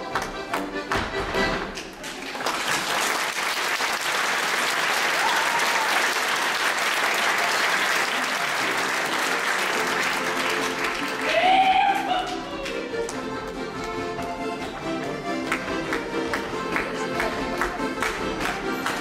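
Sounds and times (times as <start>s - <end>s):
audience applauding: 1.7s - 13.2s, 14.7s - 19.0s.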